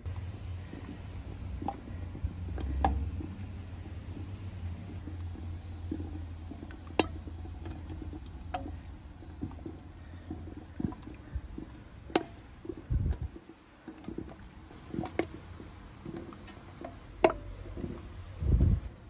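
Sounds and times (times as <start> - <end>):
water sloshing: 0.0 - 19.0.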